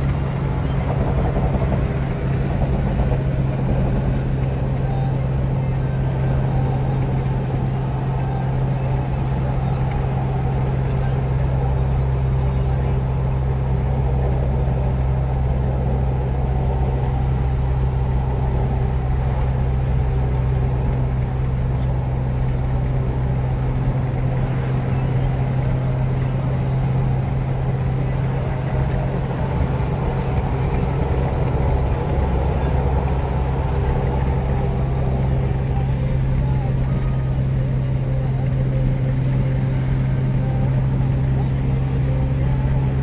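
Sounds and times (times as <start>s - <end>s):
low engine hum: 0.0s - 43.0s
road and tyre noise: 0.0s - 43.0s.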